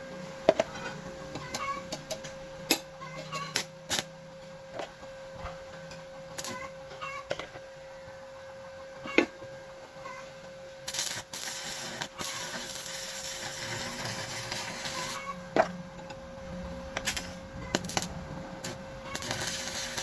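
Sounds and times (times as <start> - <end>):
arc welding crackling and hissing: 0.0 - 20.0
faint steady hum: 0.0 - 20.0.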